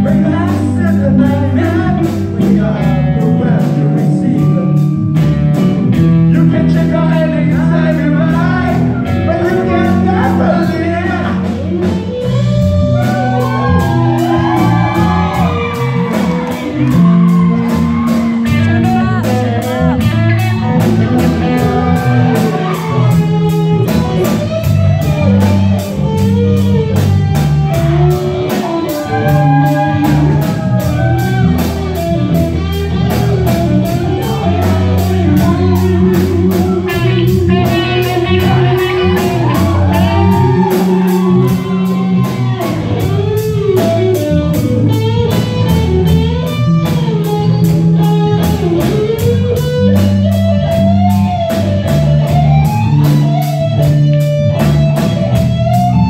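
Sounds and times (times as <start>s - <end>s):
bass guitar: 0.0s - 56.0s
electric guitar lead lines: 0.0s - 56.0s.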